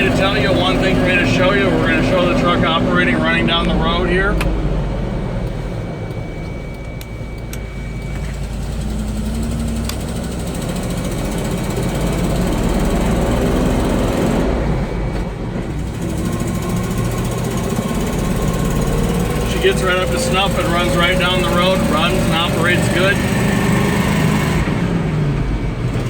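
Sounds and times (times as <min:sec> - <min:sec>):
truck engine driving: 0:00.0 - 0:26.0.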